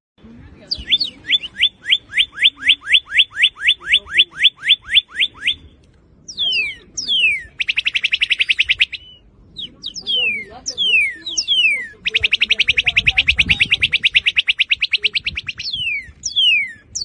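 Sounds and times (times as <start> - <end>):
bird fast trill: 0.7 - 17.0
bird whistling song: 0.7 - 17.0.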